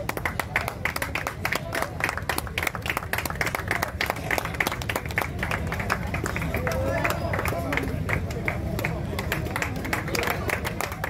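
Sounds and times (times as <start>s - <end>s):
audience clapping: 0.0s - 11.0s.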